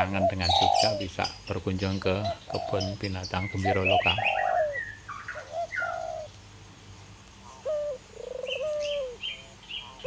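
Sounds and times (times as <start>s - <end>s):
bird cooing: 0.0s - 6.4s, 7.4s - 10.0s.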